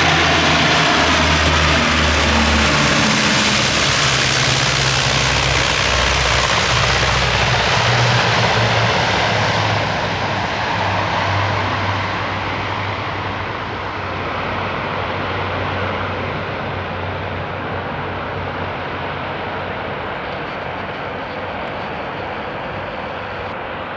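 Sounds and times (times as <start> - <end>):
engine hiss: 0.0 - 23.9
propeller drone: 0.0 - 23.9.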